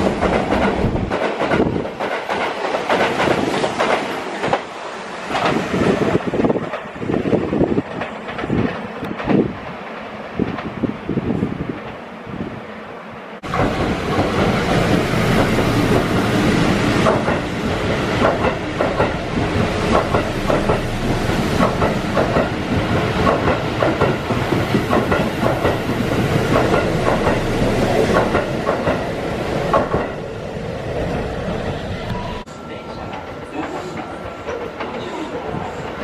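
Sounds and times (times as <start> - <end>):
clickety-clack over rail joints: 0.0 - 12.0, 13.4 - 30.3, 33.0 - 36.0
train wheels rumbling on rail: 0.0 - 12.7, 13.3 - 36.0.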